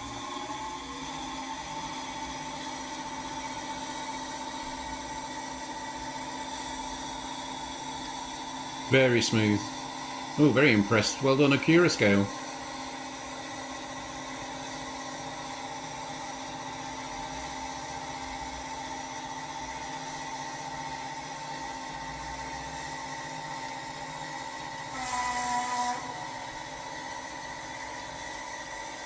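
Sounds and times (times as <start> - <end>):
model train humming: 0.0 - 23.5, 24.3 - 29.0.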